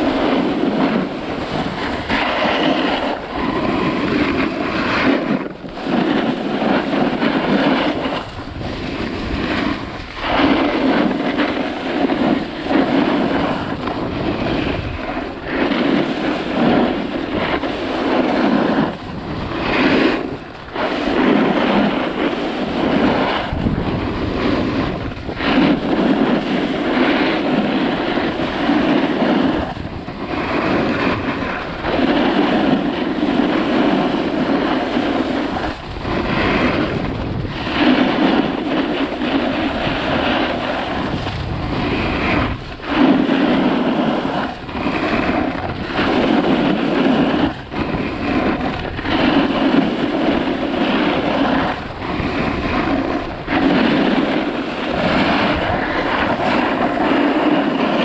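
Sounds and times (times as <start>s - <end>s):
skis carving on snow: 0.0s - 58.0s
wind buffeting microphone: 0.0s - 58.0s.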